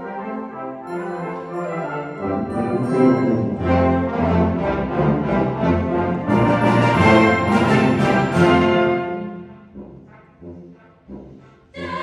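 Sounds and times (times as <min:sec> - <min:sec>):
brass band playing: 0:00.0 - 0:11.9.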